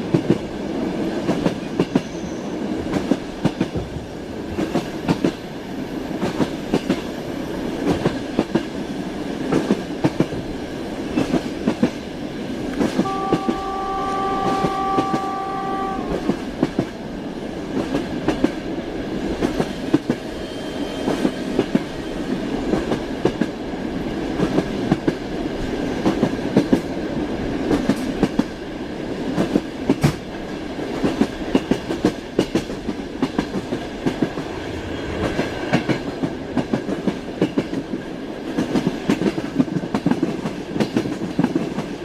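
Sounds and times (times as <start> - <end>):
train carriage rumble: 0.0 - 42.0.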